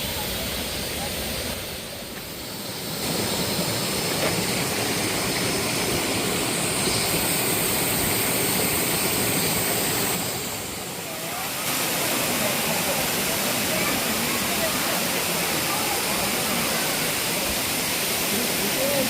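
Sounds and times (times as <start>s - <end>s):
waterfall rushing: 3.0s - 19.0s.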